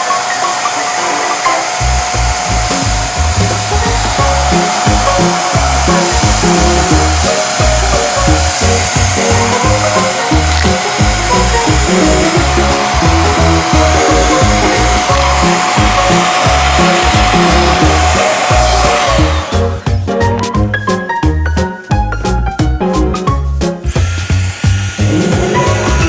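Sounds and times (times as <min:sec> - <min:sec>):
vacuum cleaner running: 0:00.0 - 0:20.1, 0:23.8 - 0:26.0
background music: 0:00.0 - 0:26.0.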